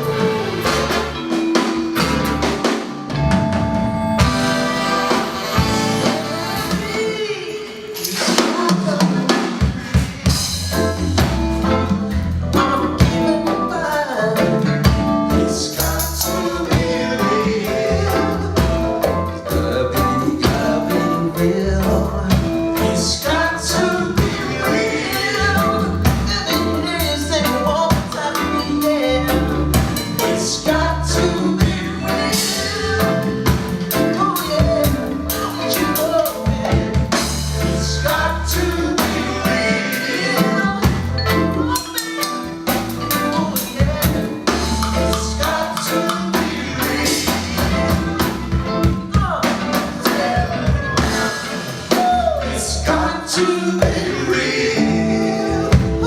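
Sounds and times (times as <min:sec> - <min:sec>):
bass guitar: 0:00.0 - 0:07.2, 0:09.7 - 0:56.0
drum kit: 0:00.0 - 0:56.0
jazz-funk band playing: 0:00.0 - 0:56.0
person singing: 0:05.1 - 0:56.0.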